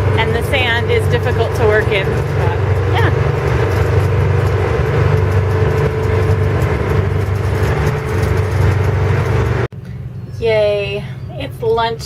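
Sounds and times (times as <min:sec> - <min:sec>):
truck engine drone from inside cab: 0:00.0 - 0:12.0.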